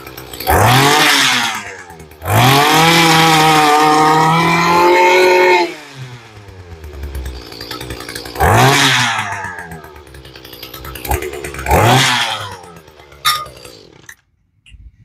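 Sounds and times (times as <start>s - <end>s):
small two-stroke engine revving: 0.0s - 14.2s.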